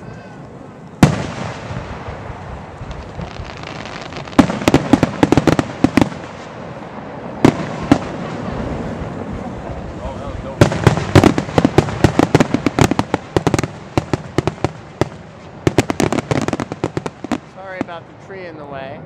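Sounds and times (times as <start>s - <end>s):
fireworks bangs: 0.3s - 18.2s
fireworks crackling pops: 0.8s - 18.0s.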